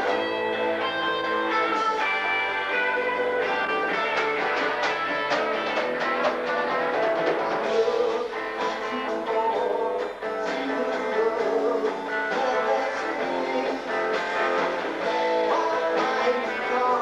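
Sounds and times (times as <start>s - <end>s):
drum kit: 0.0s - 17.0s
electric guitar strummed: 0.0s - 17.0s.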